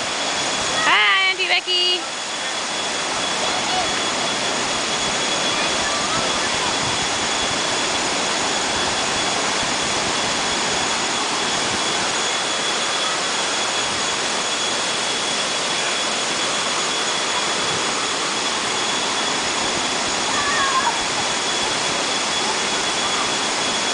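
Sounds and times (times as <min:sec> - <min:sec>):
stream rushing over rocks: 0:00.0 - 0:00.9, 0:02.0 - 0:23.9.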